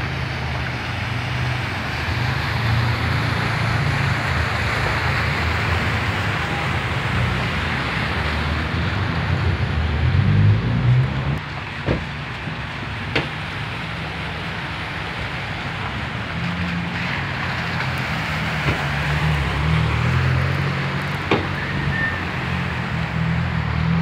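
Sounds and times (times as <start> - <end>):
traffic hissing through water: 0.0 - 24.0.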